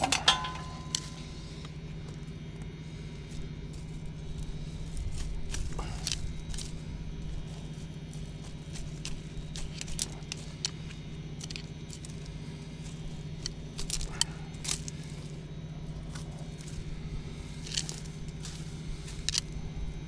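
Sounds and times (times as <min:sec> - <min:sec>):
dry leaves rustling and crackling: 0:00.0 - 0:20.0
steady low hum: 0:00.0 - 0:20.0.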